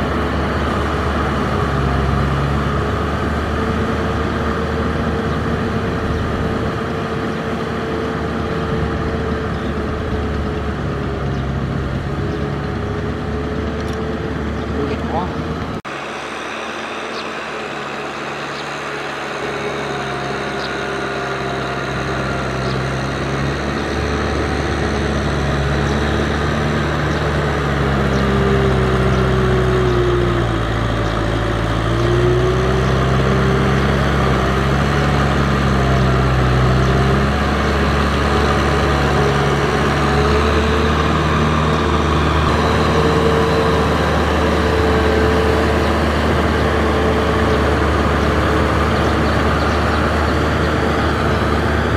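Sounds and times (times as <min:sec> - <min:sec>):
tractor diesel engine under load: 0:00.0 - 0:51.9.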